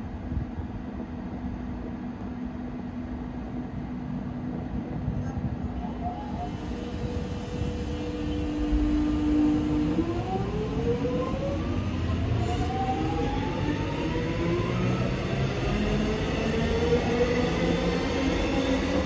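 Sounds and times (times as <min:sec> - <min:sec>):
train wheels rumbling on rails: 0:00.2 - 0:19.0.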